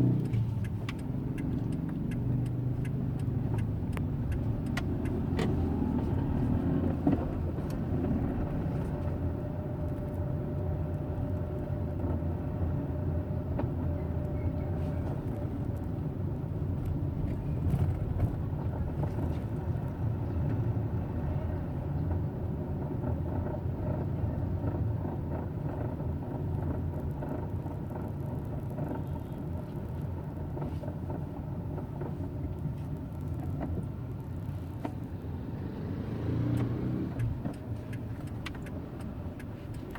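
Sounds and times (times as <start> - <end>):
car engine running low rumble: 0.0 - 39.9.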